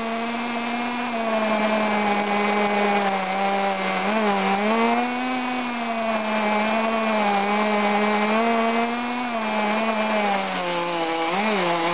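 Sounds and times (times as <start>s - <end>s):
small engine high-pitched whine: 0.0s - 11.9s.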